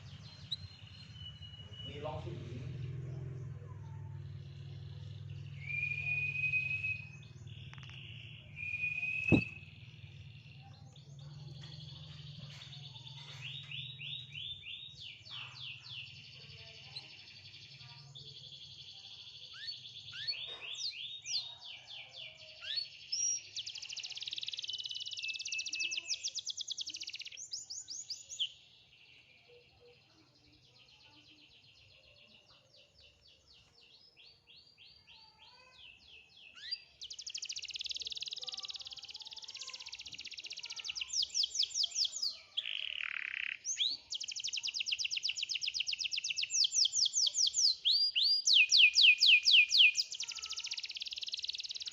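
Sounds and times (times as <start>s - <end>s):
canary singing trills: 0.0s - 28.7s, 31.8s - 51.9s.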